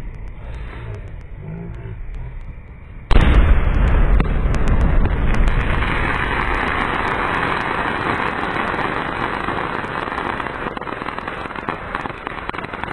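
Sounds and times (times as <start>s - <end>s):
firework crackling: 0.0s - 12.9s.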